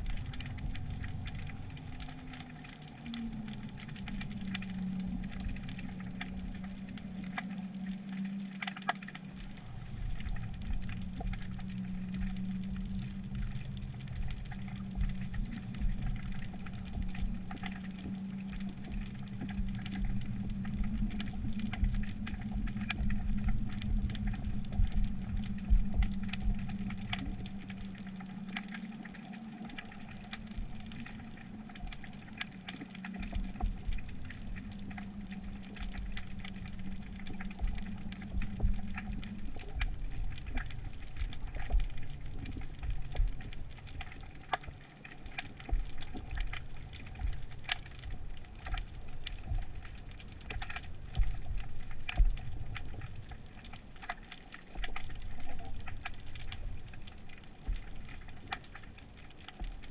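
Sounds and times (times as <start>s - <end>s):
low underwater hum: 0.0s - 59.9s
underwater crackle of clicks: 0.0s - 59.9s.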